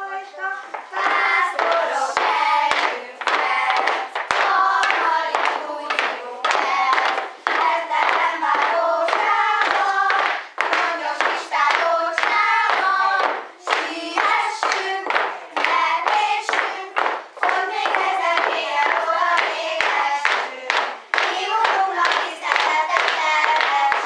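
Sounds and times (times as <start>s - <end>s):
children singing: 0.0s - 24.0s
rhythmic hand claps: 0.6s - 24.0s.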